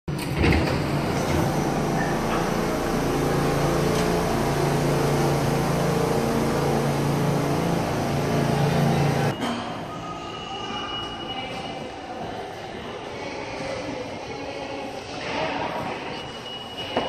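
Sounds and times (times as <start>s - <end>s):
subway train humming: 0.1s - 15.1s.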